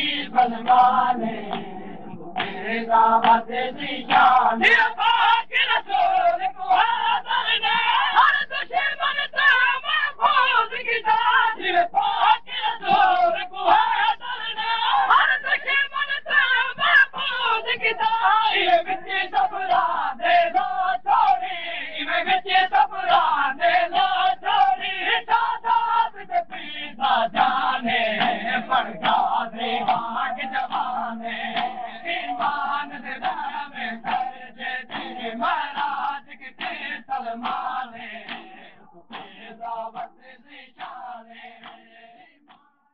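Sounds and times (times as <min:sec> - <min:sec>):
crowd chanting in unison: 0:00.0 - 0:42.6.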